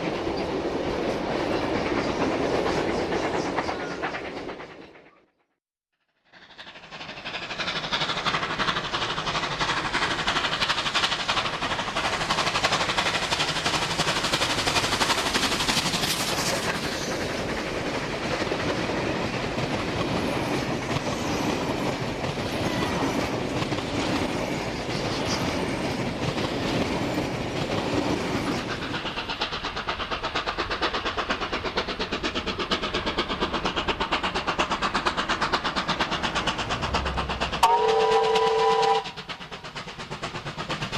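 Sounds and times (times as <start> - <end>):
train wheel noise: 0.0 - 5.4, 6.3 - 40.9
steam locomotive exhaust: 6.2 - 40.9.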